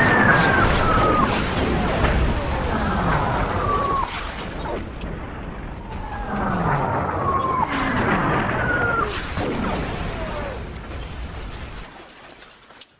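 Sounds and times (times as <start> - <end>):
low rumble: 0.0 - 11.9
explosions: 0.0 - 12.1.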